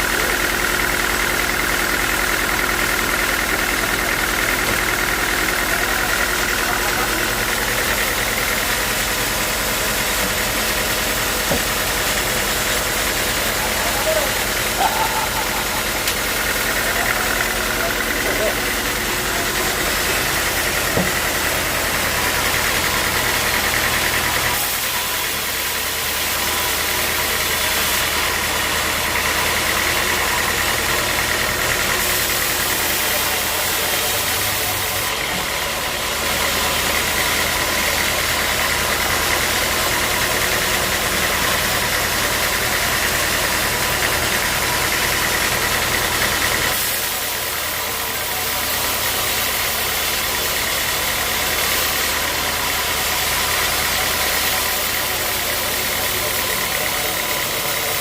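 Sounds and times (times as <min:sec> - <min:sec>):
saw whining: 0:00.0 - 0:58.0
sawmill engine humming: 0:00.0 - 0:58.0.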